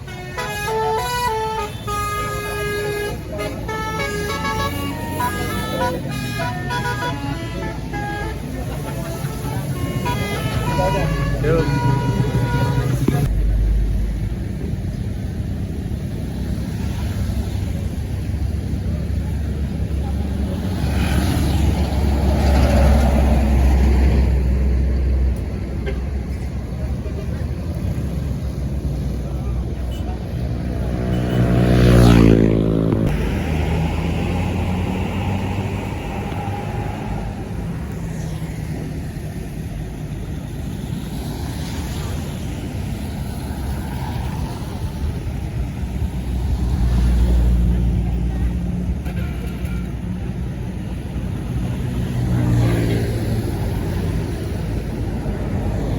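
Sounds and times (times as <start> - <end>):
bus engine passing by: 0.0 - 55.9
traffic noise: 0.0 - 55.9.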